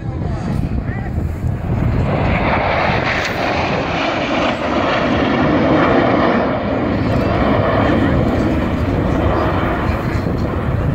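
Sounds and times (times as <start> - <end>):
jet engines roaring past: 0.0 - 10.9.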